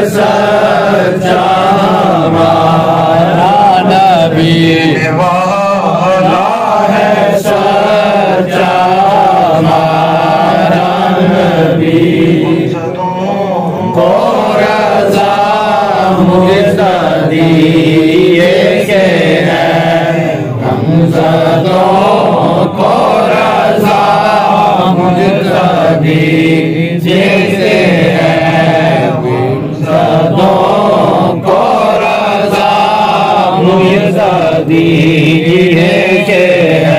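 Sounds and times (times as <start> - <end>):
person chanting devotional melody: 0.0 - 36.9.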